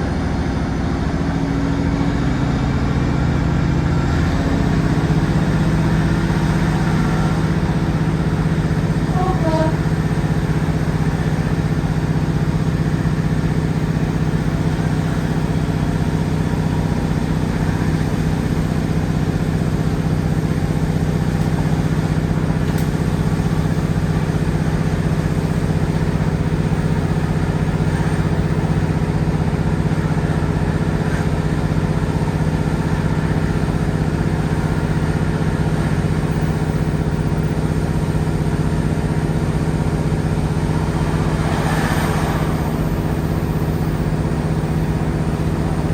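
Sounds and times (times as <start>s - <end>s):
diesel train engine running: 0.0s - 45.9s.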